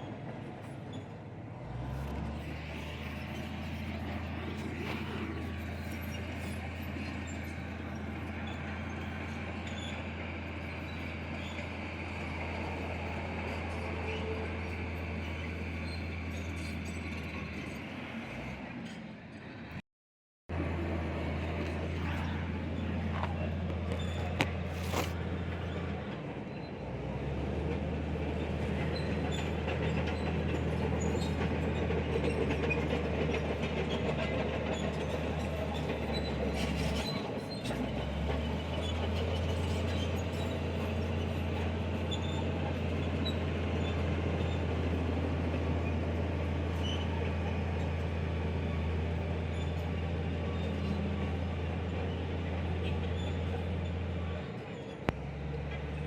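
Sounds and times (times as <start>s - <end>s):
steel tracks clanking and squealing: 0.0s - 19.6s, 20.8s - 56.0s
bulldozer diesel engine under load: 0.0s - 19.8s, 20.5s - 56.0s.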